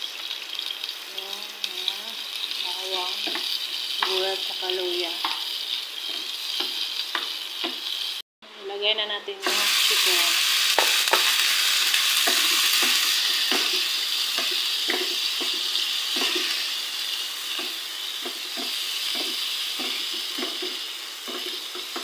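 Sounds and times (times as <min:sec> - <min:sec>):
chicken sizzling in hot oil: 0:00.0 - 0:08.2, 0:09.4 - 0:22.0.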